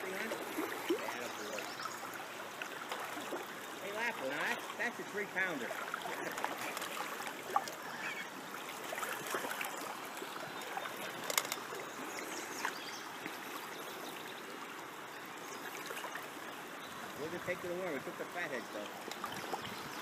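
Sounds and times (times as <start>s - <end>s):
river water rushing over riffles: 0.0s - 20.0s.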